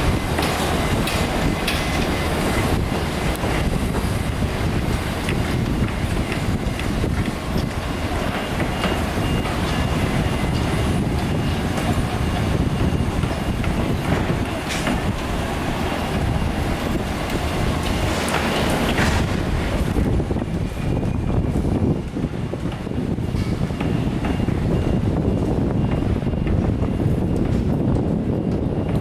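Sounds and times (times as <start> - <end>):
construction machinery rumbling: 0.0 - 29.0.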